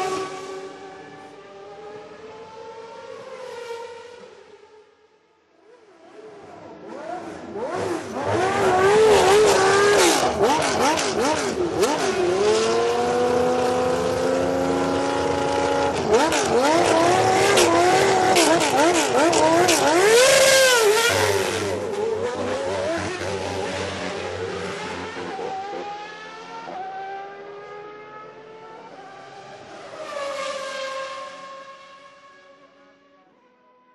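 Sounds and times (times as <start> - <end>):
racing car engine at high revs: 0.0 - 4.7, 5.6 - 33.4.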